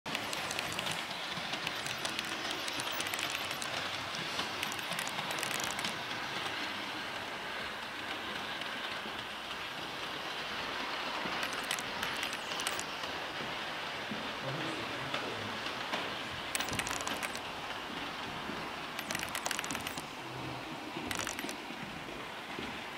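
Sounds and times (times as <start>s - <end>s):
model train wheels rattling: 0.1s - 13.6s, 15.6s - 20.2s, 21.0s - 22.0s.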